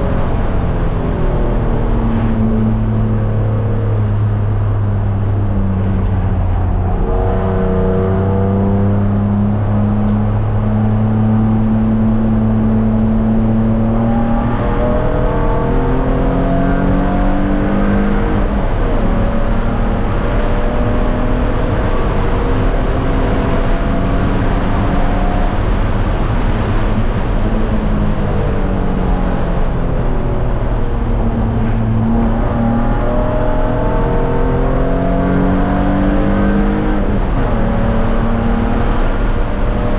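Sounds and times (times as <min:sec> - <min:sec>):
race car engine: 0:00.0 - 0:39.9
road and wind noise: 0:00.0 - 0:39.9.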